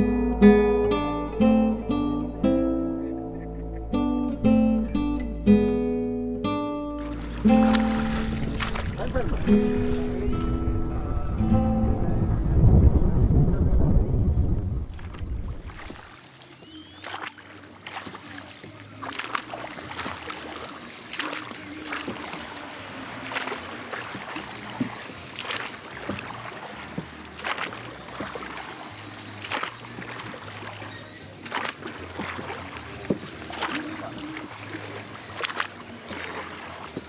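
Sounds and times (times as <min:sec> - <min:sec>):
water splashing and sloshing: 0:00.0 - 0:10.9, 0:11.6 - 0:37.0.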